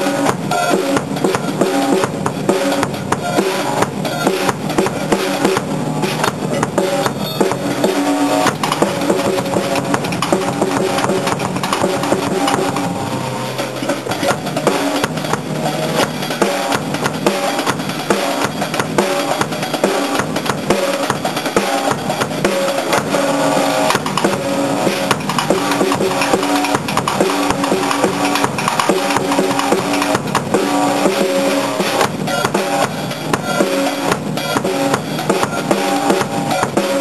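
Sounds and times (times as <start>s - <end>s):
drum kit playing: 0.0s - 37.0s.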